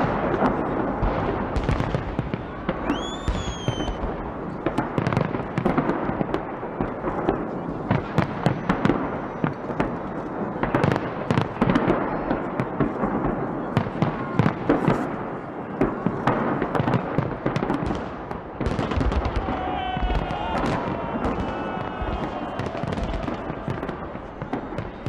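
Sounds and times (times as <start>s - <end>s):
firework crackle: 0.0s - 25.0s.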